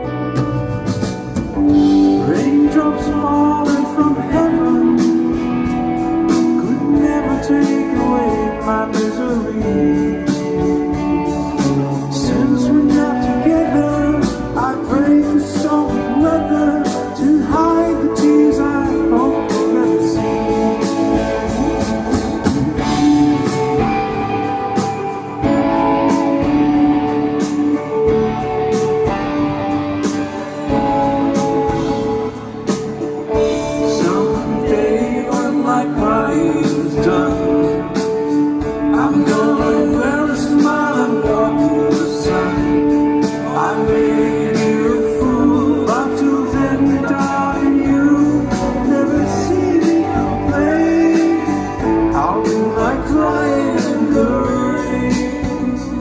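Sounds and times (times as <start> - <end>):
drums: 0.0 - 56.0
guitar: 0.0 - 56.0
keyboards: 0.0 - 56.0
person singing: 1.5 - 56.0.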